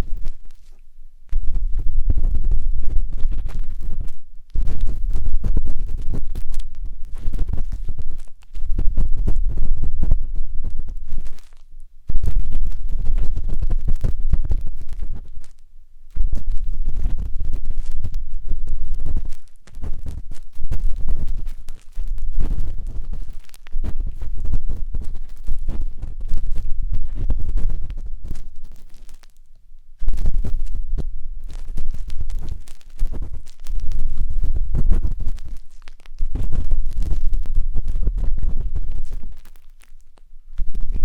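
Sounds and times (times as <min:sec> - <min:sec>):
matchstick scratching on microphone: 0:00.0 - 0:41.0.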